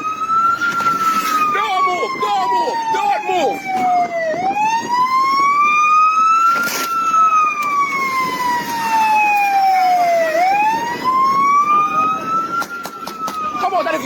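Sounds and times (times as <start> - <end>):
police car siren wailing: 0.0 - 14.0.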